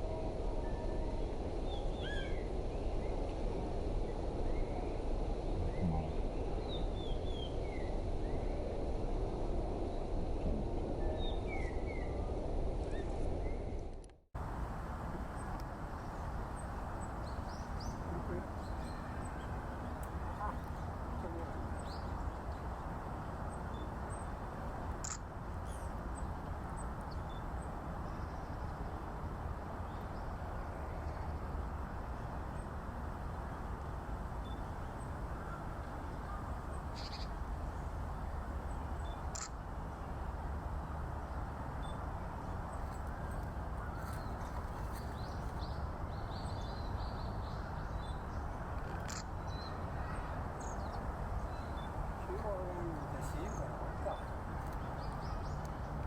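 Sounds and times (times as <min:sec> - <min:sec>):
outdoor background noise: 0:00.0 - 0:56.0.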